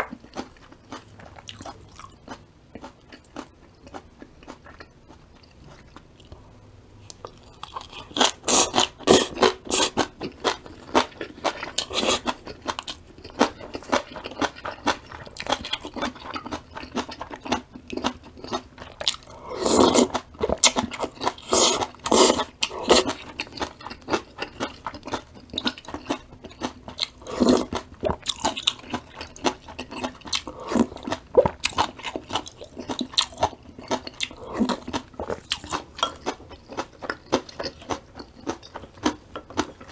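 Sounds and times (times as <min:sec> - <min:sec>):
chewing crisp vegetables: 0:00.0 - 0:39.9.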